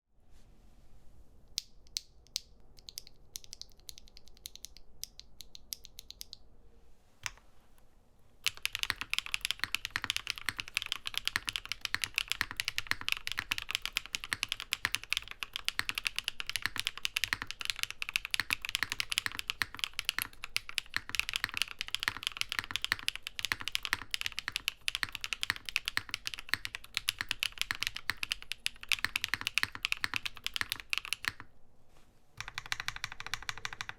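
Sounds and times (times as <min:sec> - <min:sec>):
mechanical keyboard typing: 0:01.9 - 0:06.4, 0:08.4 - 0:31.5, 0:32.4 - 0:33.9.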